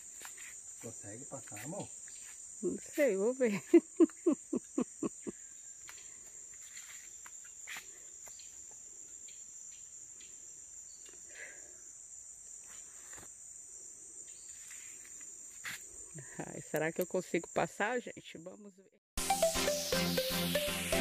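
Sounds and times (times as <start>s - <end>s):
high-pitched insect drone: 0.0s - 16.1s, 19.2s - 21.0s.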